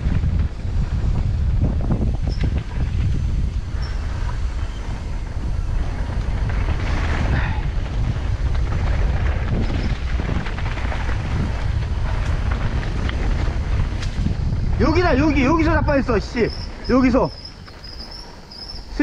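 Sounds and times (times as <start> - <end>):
bike rattling on trail: 0.0 - 19.0
wind buffeting microphone: 0.0 - 19.0.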